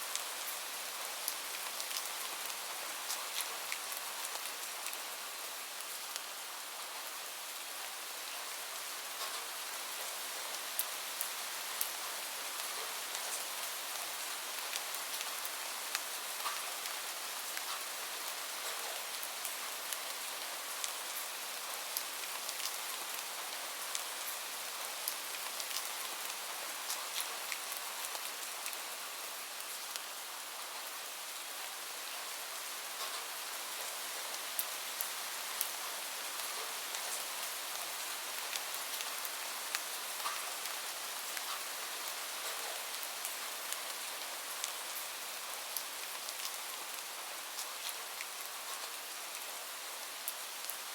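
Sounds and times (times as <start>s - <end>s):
gentle rain falling: 0.0s - 50.9s.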